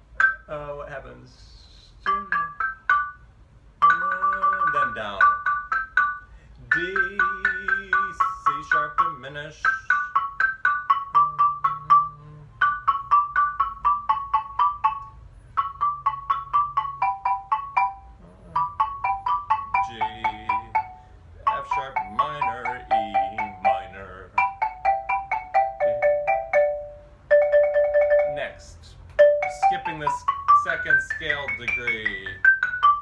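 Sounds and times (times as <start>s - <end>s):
xylophone notes: 0.2s - 1.0s, 2.0s - 33.0s.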